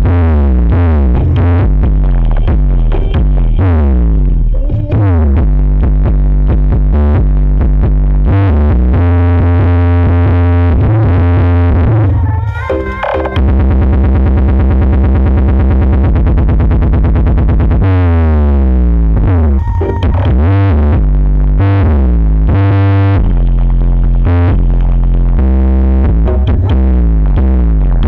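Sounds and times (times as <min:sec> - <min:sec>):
loud electronic dance music: 0:00.0 - 0:18.2, 0:19.2 - 0:21.0, 0:21.6 - 0:28.0.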